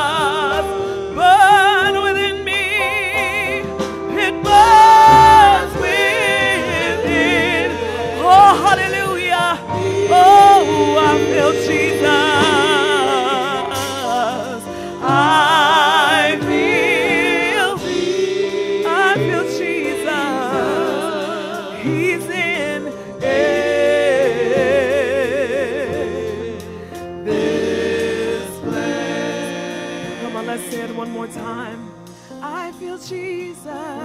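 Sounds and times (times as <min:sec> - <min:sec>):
woman singing gospel: 0:00.0 - 0:26.7, 0:28.3 - 0:34.0
sustained keyboard chords: 0:00.0 - 0:32.3.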